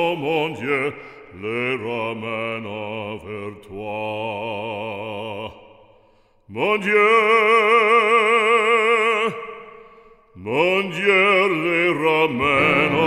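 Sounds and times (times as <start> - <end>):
solo voice singing a hymn: 0.0 - 5.8, 6.5 - 13.0.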